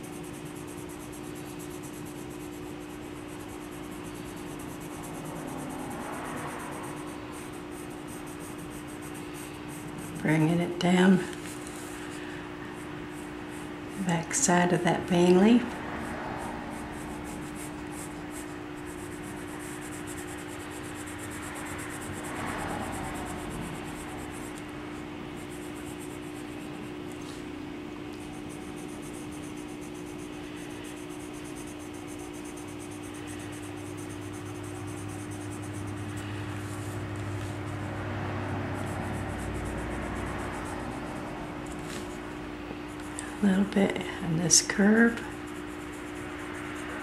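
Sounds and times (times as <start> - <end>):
colored pencil shading on paper: 0.0 - 27.4, 28.1 - 47.0
steady low hum: 0.0 - 47.0.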